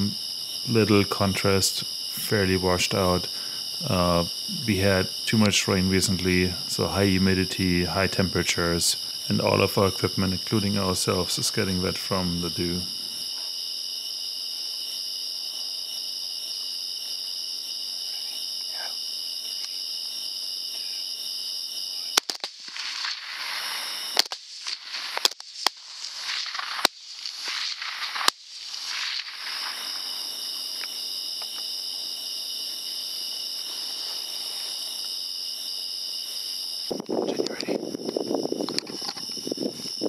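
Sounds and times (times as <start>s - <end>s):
night insects trilling: 0.0s - 40.0s.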